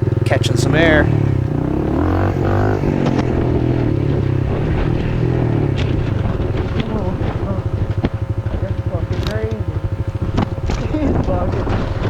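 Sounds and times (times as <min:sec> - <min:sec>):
motorbike engine revving: 0:00.0 - 0:12.0
bike knocking over rough ground: 0:01.6 - 0:12.0.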